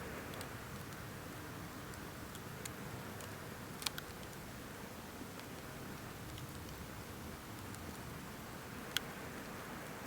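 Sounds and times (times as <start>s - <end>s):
fire crackles: 0.0s - 10.0s
wood fire burning: 0.2s - 9.5s.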